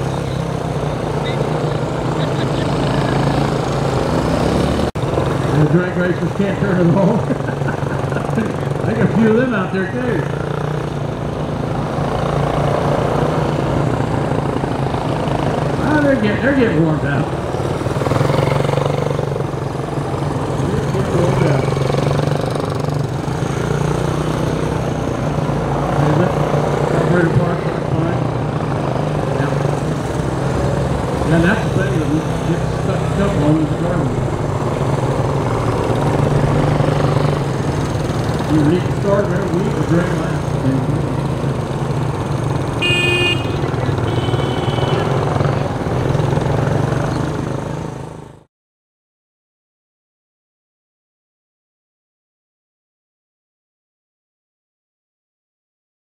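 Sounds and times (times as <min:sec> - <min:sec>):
motorcycle engines buzzing: 0:00.0 - 0:48.5.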